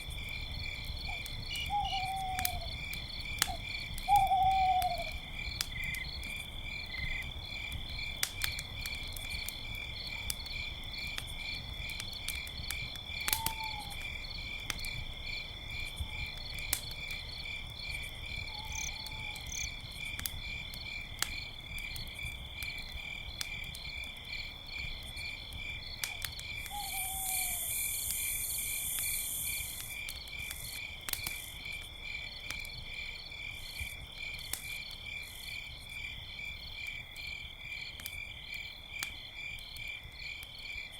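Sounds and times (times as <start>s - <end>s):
crackling campfire: 0.0s - 40.9s
crickets chirping: 0.0s - 40.9s.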